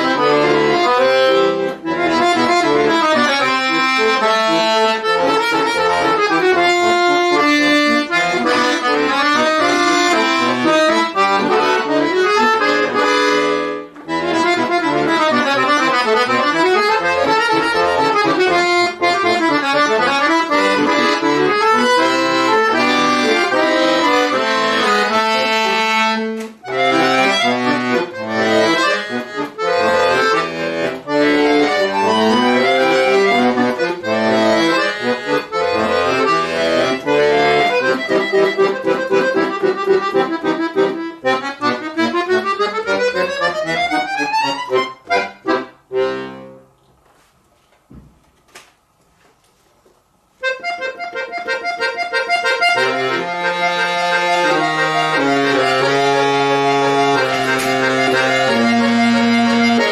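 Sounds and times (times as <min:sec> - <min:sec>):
button accordion playing fast: 0:00.0 - 0:46.6, 0:50.4 - 0:59.9.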